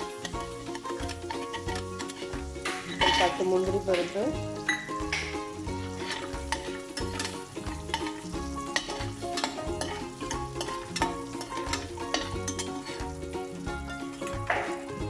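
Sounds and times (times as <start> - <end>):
metal spoon scraping pan: 0.0 - 13.1
background music with beat: 0.0 - 15.0
nuts sizzling in pan: 0.0 - 15.0.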